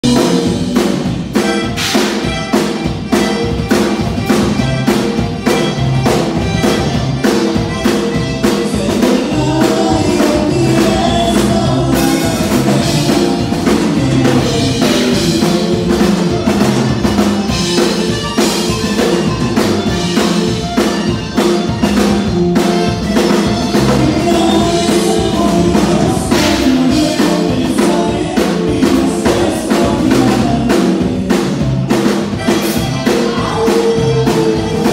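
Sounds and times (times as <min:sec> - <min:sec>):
band playing dance music: 0:00.0 - 0:34.9
drum kit beat: 0:00.0 - 0:34.9.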